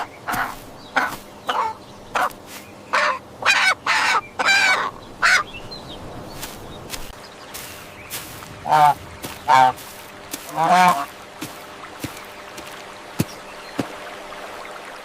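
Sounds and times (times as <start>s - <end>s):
crow calling: 0.0s - 5.6s, 7.4s - 13.9s.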